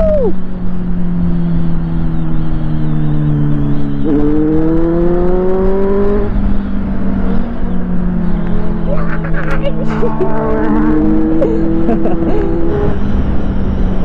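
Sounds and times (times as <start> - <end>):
second motorbike accelerating: 0.0 - 14.0.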